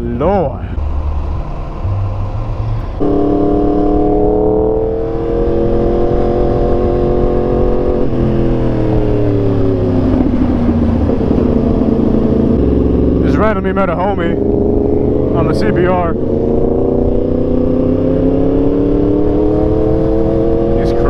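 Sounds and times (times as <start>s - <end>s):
motorcycle engine revving: 0.8s - 21.0s.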